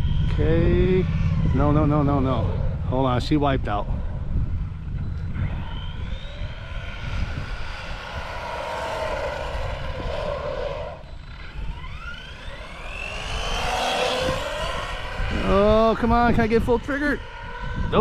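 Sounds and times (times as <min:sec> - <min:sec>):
electric motor whining: 0:00.0 - 0:18.0
wind buffeting microphone: 0:00.0 - 0:18.0.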